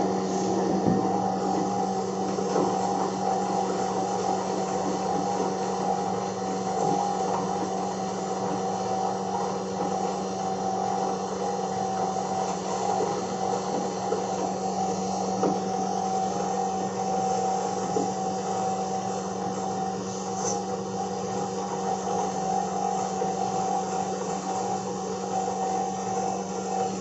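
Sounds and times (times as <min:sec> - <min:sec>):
flour mill motor humming: 0:00.0 - 0:27.0.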